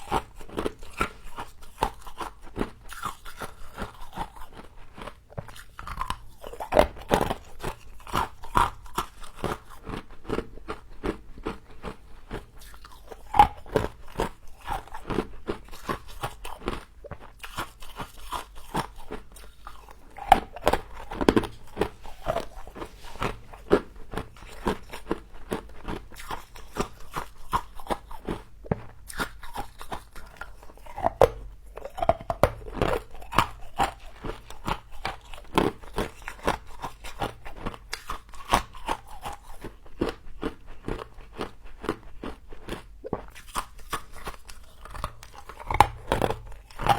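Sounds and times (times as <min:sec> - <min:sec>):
crunching and chewing frost: 0:00.0 - 0:46.9.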